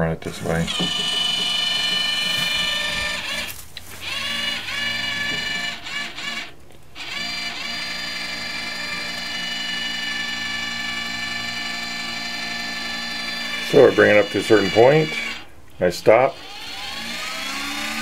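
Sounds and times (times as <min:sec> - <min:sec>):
electric motor whining: 0:00.4 - 0:15.5, 0:16.1 - 0:18.0.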